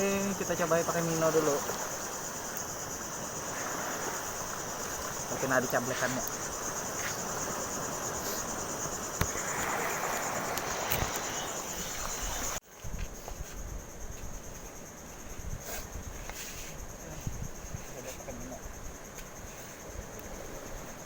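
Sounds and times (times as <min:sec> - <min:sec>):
crickets chirring: 0:00.0 - 0:21.0
outdoor background noise: 0:00.0 - 0:21.0.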